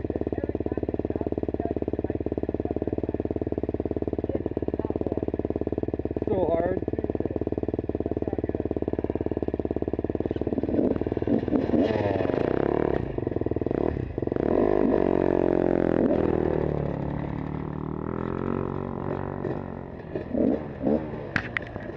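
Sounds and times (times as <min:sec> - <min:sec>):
dirt bike engines idling: 0:00.0 - 0:21.9
dirt bike riding off: 0:00.0 - 0:21.9.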